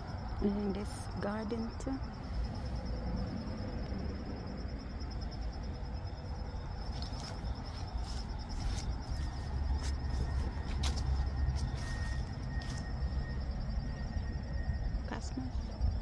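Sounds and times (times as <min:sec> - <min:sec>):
insects trilling: 0:00.0 - 0:16.0
low rumble: 0:00.0 - 0:16.0.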